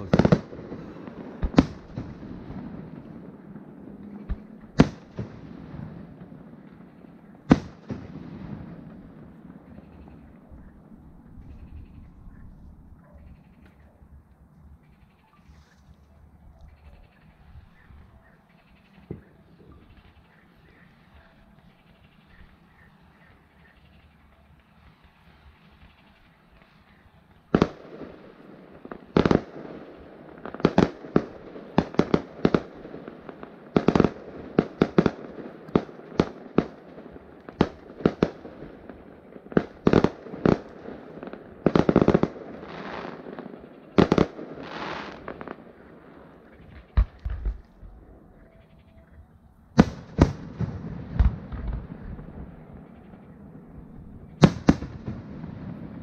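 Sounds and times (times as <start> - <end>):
fireworks bangs and crackling: 0.0 - 12.0, 18.8 - 48.1, 49.7 - 56.0.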